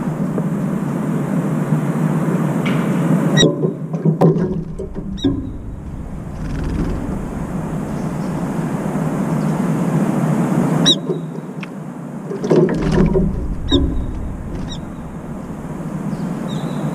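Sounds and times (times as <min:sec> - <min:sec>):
distant traffic hum: 0:00.0 - 0:03.4, 0:04.4 - 0:11.6, 0:12.4 - 0:16.9.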